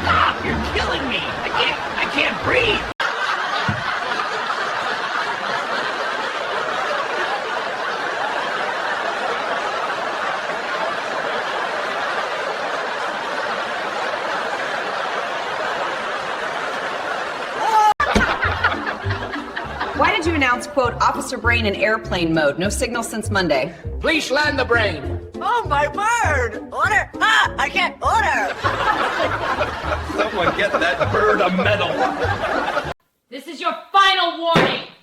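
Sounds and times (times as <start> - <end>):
crowd laughing: 0.0 - 21.2, 24.4 - 33.0.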